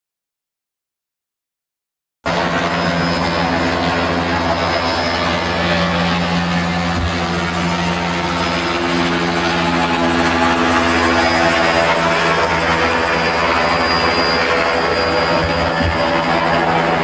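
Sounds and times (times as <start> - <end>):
helicopter hovering: 2.3 - 17.0.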